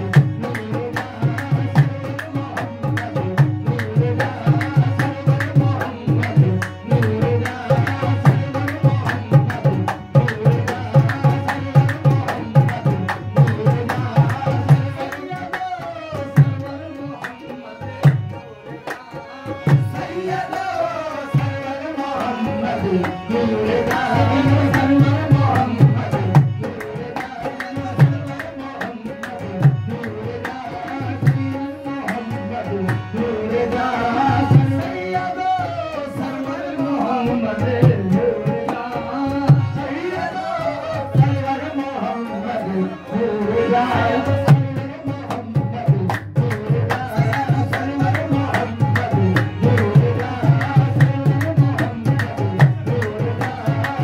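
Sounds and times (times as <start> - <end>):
devotional singing: 0.0 - 54.0.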